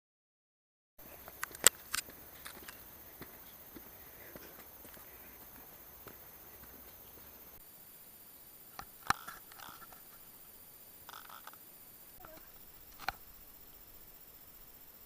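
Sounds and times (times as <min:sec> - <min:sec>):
faint steady hiss: 0:01.0 - 0:15.0.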